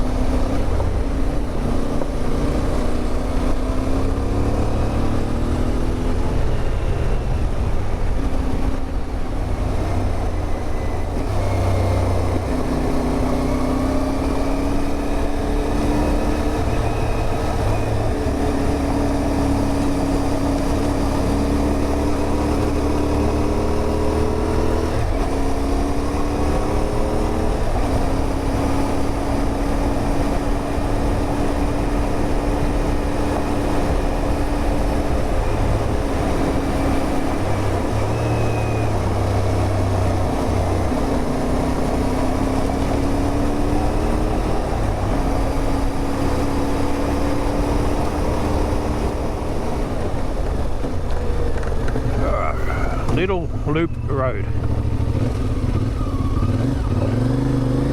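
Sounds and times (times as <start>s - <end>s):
low wind rumble on microphone: 0.0s - 13.5s, 14.2s - 57.7s
motorcycle engine changing gear: 10.1s - 57.9s.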